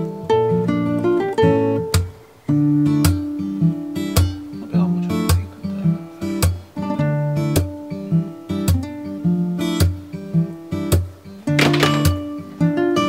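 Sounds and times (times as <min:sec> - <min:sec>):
acoustic guitar strummed and plucked: 0:00.0 - 0:13.0.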